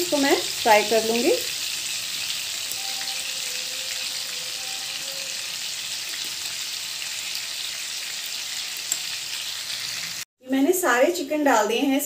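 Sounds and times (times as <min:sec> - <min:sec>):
chicken sizzling in a pan: 0:00.0 - 0:10.3.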